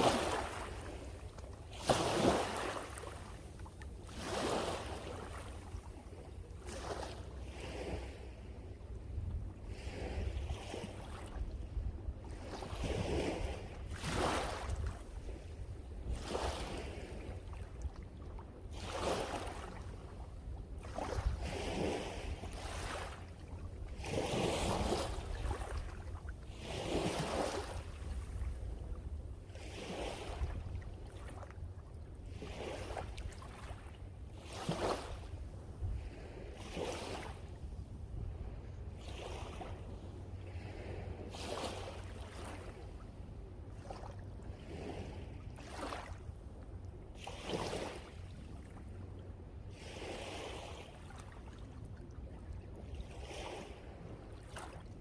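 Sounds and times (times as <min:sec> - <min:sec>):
sea waves breaking on shore: 0:00.0 - 0:46.6, 0:47.2 - 0:49.1, 0:49.7 - 0:55.0
wind rumble on microphone: 0:00.0 - 0:55.0.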